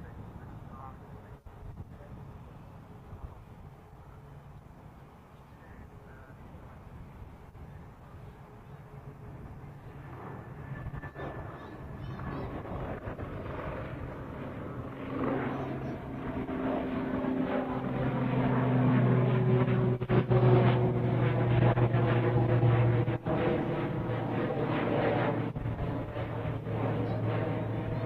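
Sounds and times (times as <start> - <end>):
jet engines rushing: 0.0 - 28.0
low humming tones: 0.0 - 28.0.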